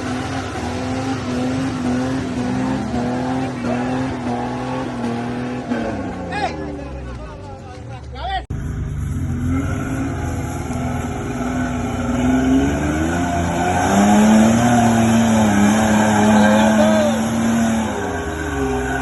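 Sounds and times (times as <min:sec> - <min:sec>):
car engine revving hard: 0:00.0 - 0:06.5, 0:09.3 - 0:19.0.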